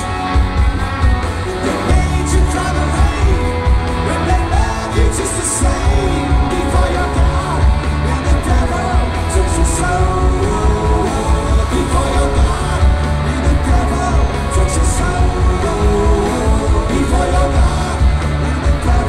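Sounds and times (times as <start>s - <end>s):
bass guitar: 0.0s - 19.0s
drums with cymbal hits: 0.0s - 19.0s
electric guitars: 0.0s - 19.0s
man singing lead vocal: 0.0s - 19.0s.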